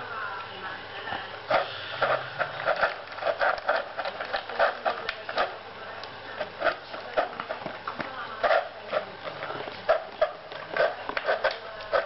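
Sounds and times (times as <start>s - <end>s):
dog crunching dry kibble: 1.6s - 5.6s, 6.4s - 12.0s.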